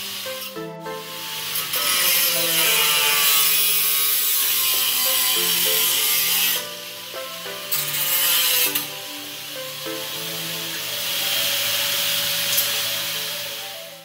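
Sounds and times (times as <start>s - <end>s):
angle grinder cutting steel: 0.0s - 14.0s
background music: 0.0s - 14.0s.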